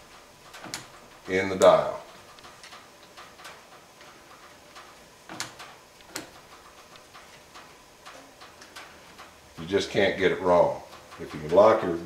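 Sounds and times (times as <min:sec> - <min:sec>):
lathe carriage metal clicks: 0:00.0 - 0:12.0.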